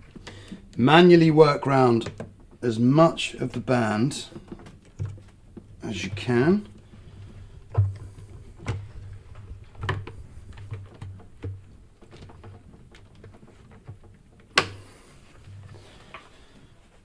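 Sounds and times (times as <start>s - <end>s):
hands tapping and rubbing rubber seal: 0.0s - 17.0s.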